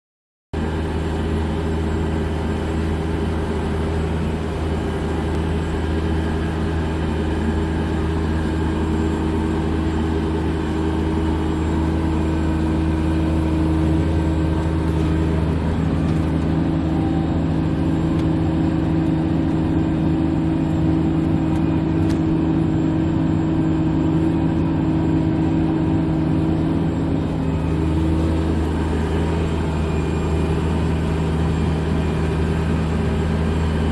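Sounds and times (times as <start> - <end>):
tractor diesel engine droning: 0.6 - 33.9.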